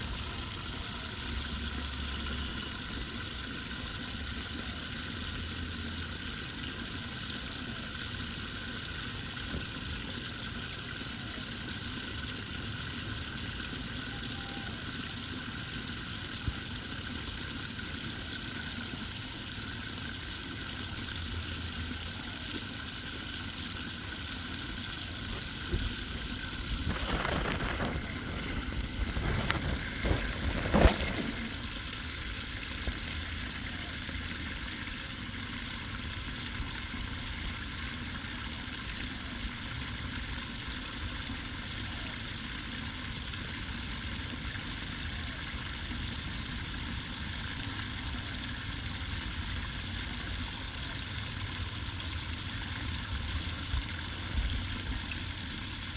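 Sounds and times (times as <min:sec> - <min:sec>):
water draining into street drain: 0:00.0 - 0:55.9.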